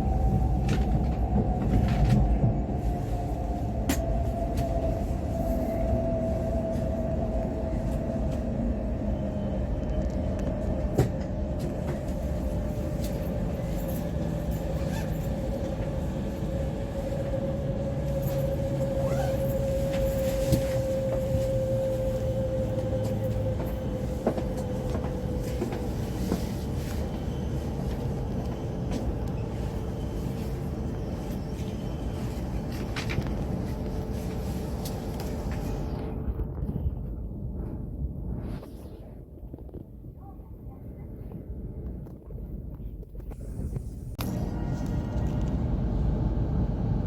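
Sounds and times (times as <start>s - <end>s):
train cabin rumble and hum: 0.0s - 47.0s.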